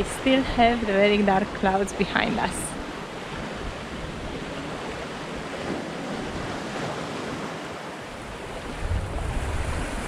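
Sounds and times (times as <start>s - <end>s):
sea water rushing in wake: 0.0s - 10.0s
wind over microphone: 0.0s - 10.0s.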